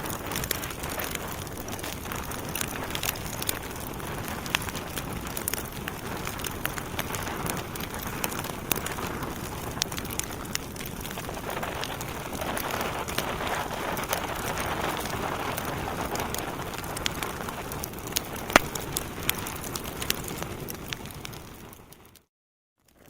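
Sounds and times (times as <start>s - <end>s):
burning logs crackling and popping: 0.0s - 22.2s.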